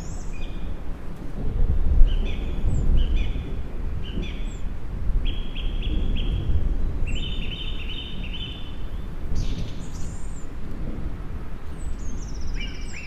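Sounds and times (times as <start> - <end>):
songbird singing: 0.0 - 0.8, 2.0 - 10.6, 11.6 - 13.0
distant thunder rumble: 0.0 - 13.0.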